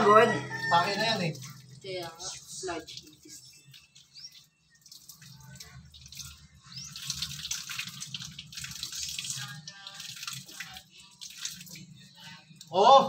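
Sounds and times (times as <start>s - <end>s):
water splashing and dripping: 0.4s - 13.0s.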